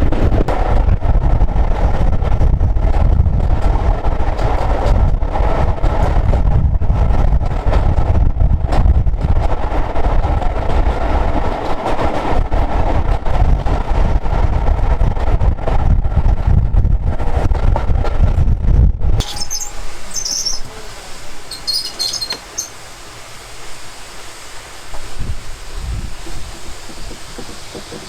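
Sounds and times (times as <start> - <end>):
steam train rumbling past: 0.0 - 18.4, 19.1 - 28.0
wind on microphone: 0.0 - 22.7, 23.4 - 28.0.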